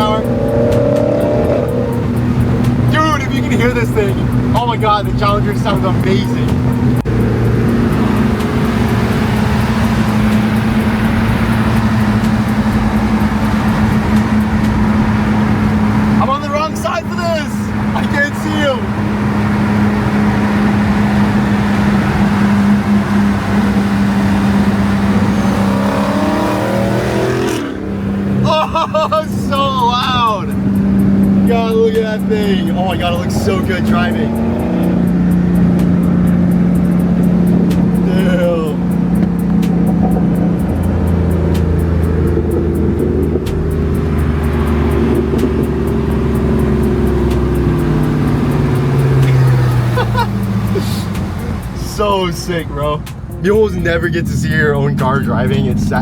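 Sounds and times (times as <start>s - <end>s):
engine drone and road noise: 0.0s - 56.0s
loud car engine accelerating: 0.0s - 56.0s.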